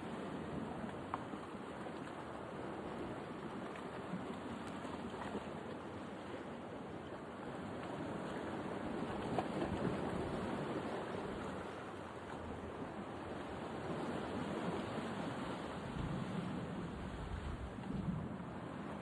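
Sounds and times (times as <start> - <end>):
sea water washing: 0.0 - 19.0.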